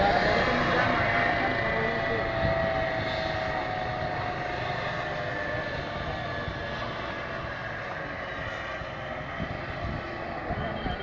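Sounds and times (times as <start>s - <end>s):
helicopter rotor and turbine roar: 0.0s - 11.0s.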